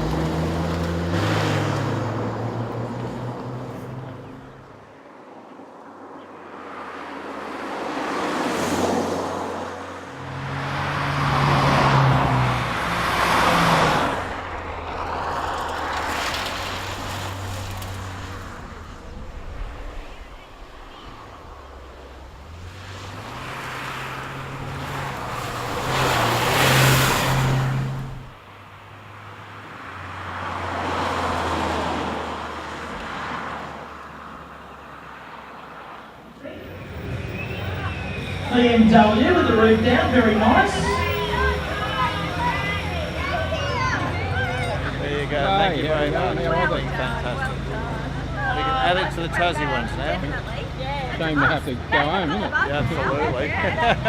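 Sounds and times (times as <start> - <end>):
sports car driving past: 6.6 - 28.4, 29.3 - 54.0.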